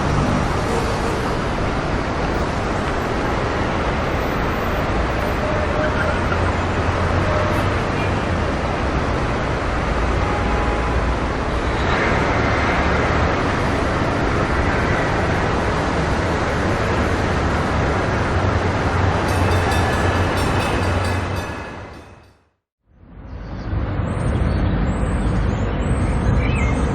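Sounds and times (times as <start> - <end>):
passing vehicles rumbling: 0.0 - 26.9.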